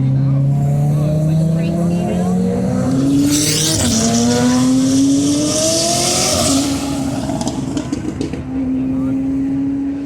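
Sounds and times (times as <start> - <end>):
vehicle engine accelerating hard: 0.0 - 10.0.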